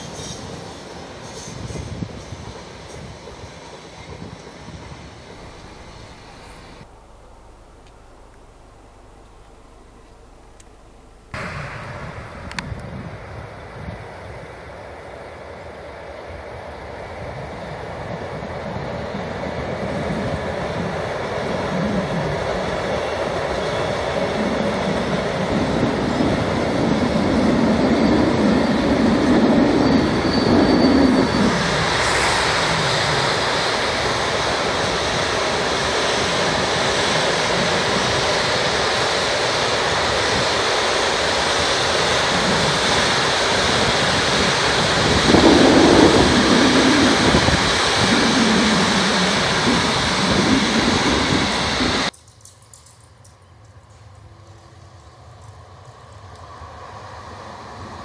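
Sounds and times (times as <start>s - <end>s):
freight train rolling past: 0.0s - 52.1s
train wheels on rails: 0.0s - 58.0s.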